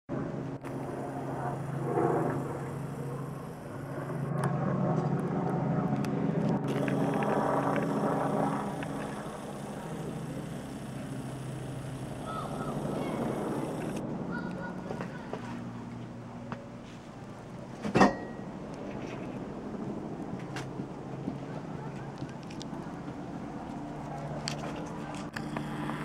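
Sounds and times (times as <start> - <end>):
helicopter flying overhead: 0.1 - 26.0.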